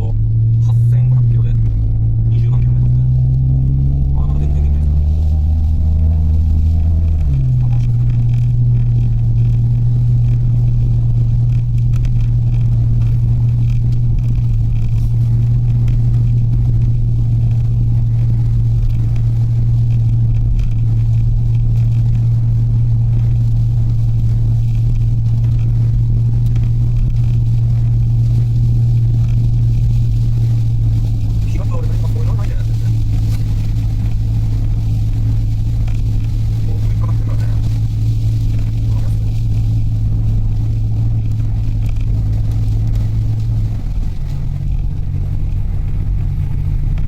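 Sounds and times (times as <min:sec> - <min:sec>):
van engine and road noise: 0:00.0 - 0:47.0.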